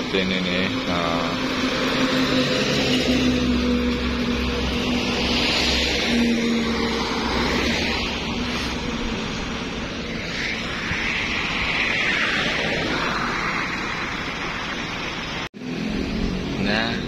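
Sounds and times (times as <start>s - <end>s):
trucks passing on road: 0.0s - 17.0s.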